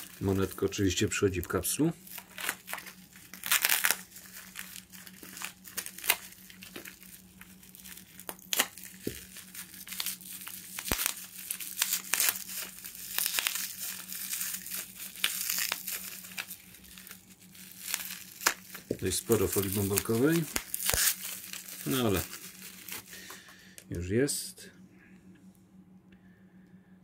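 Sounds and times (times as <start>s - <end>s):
bubble wrap crinkling: 0.0s - 23.8s.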